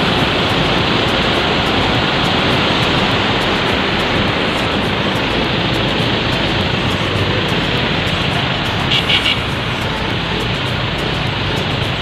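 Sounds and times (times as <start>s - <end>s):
waterfall rushing over boulders: 0.0s - 12.0s.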